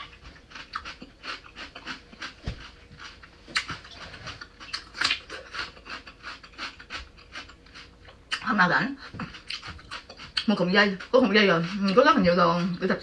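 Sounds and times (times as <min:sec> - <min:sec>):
crunching and chewing cucumber: 0:00.0 - 0:13.0.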